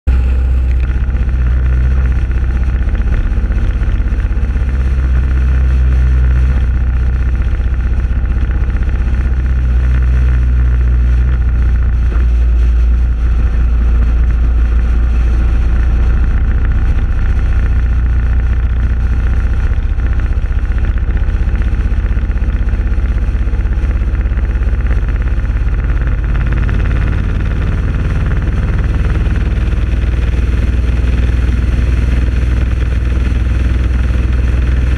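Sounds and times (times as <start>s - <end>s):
motorcycle engine rumbling: 0.0s - 34.9s
road noise: 0.0s - 34.9s
wind noise: 0.1s - 34.9s.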